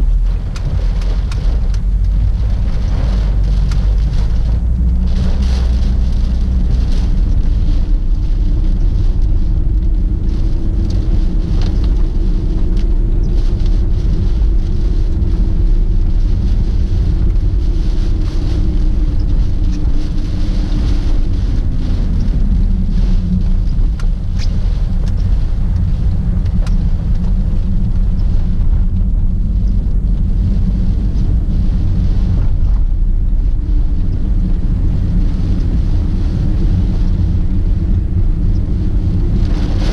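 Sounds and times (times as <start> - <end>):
road and engine rumble: 0.0 - 39.9
wind and rain: 0.0 - 39.9.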